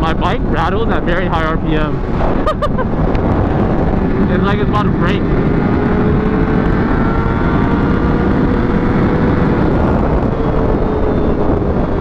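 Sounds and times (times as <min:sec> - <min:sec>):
wind rushing: 0:00.0 - 0:12.0
motorcycle engine running: 0:01.7 - 0:12.0.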